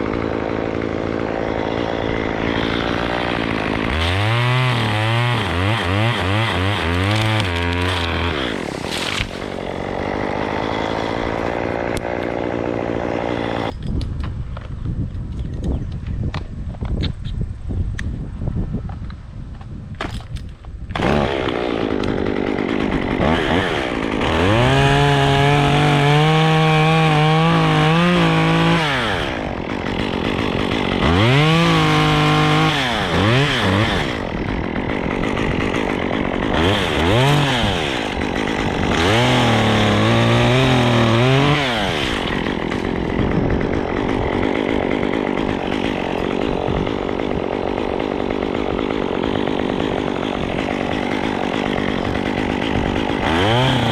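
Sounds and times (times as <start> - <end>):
chainsaw revving: 0.0 - 13.8, 20.9 - 53.9.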